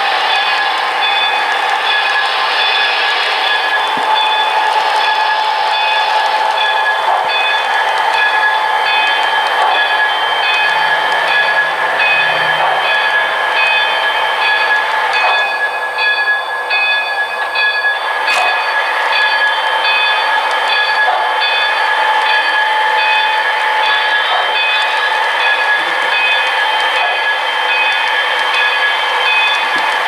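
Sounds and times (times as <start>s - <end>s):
model train whine: 0.0s - 30.0s.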